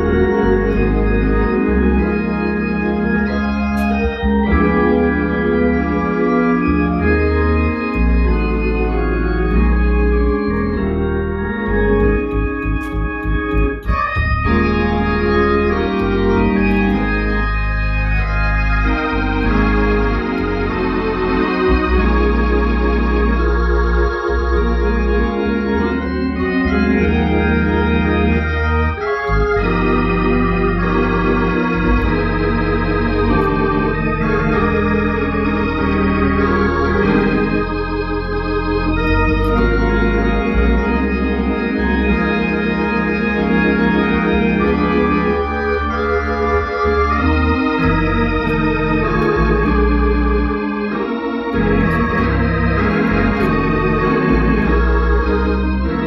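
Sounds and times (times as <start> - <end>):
low organ bass line: 0.0 - 56.0
organ playing hymn chords: 0.0 - 56.0.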